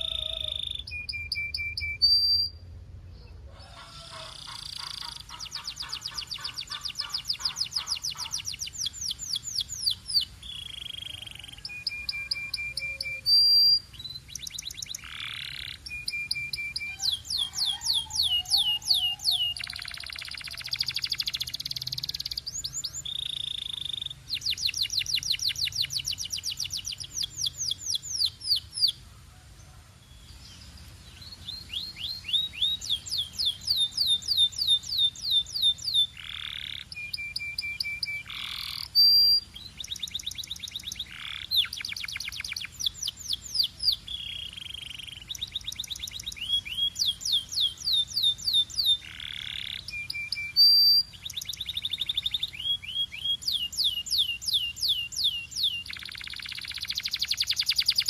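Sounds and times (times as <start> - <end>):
canary singing trills: 0.0 - 29.2, 30.0 - 58.0.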